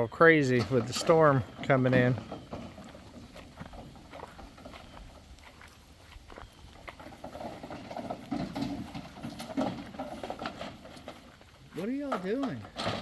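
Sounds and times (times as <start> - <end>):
goat hooves tapping: 0.4 - 13.0.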